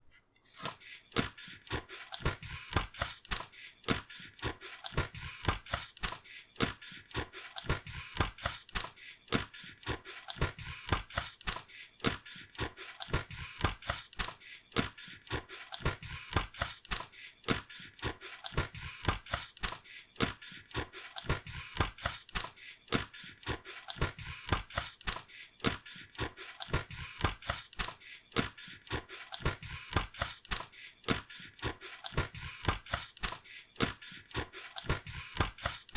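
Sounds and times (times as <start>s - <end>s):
scissors cutting paper: 0.4s - 35.9s.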